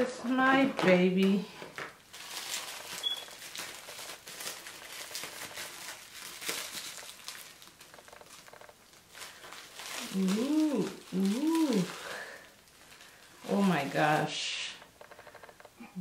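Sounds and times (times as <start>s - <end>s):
bubble wrap crackling: 0.7s - 15.7s.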